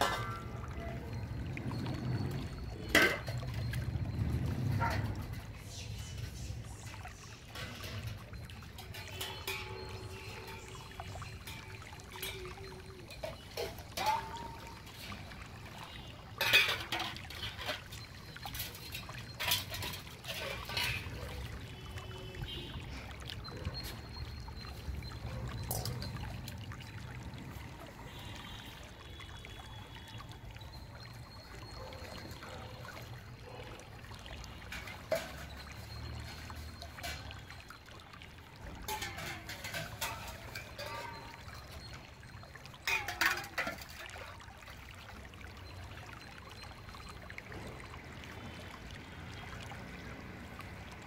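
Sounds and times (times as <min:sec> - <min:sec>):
steel pots clanking: 0:00.0 - 0:29.2, 0:30.6 - 0:46.8
water pouring into steel vessels: 0:00.0 - 0:51.0.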